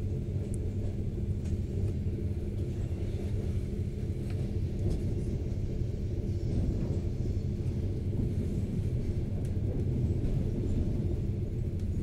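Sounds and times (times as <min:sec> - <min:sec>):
constant hum: 0:00.0 - 0:12.0
train rumble inside carriage: 0:00.0 - 0:12.0.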